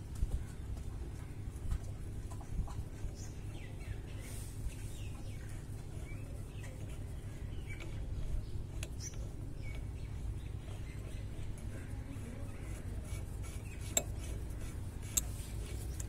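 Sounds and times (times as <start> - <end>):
steady low hum: 0.0 - 16.0
small birds chirping: 0.1 - 16.0.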